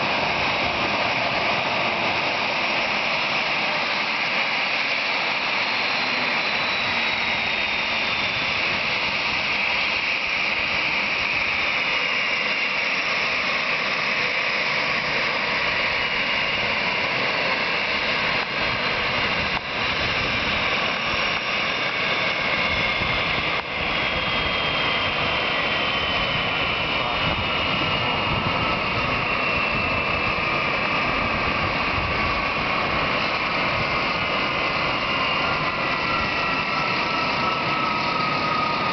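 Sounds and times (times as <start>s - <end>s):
jet engines roaring with whine: 0.0s - 38.9s.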